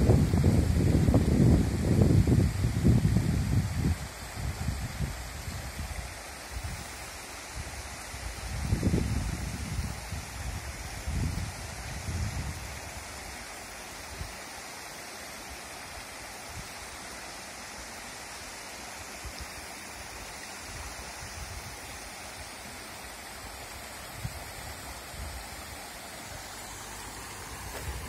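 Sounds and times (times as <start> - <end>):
small waterfall cascading: 0.0 - 28.0
river running over rocks: 5.4 - 28.0.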